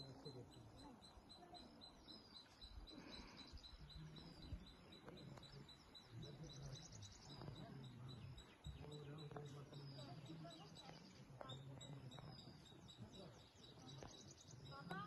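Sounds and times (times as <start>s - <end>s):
faint bird chirps and trills: 0.0s - 15.0s.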